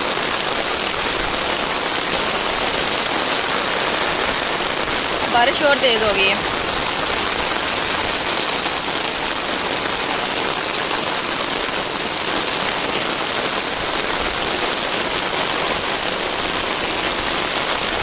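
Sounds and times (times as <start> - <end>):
heavy rain on grass and water: 0.0 - 18.0.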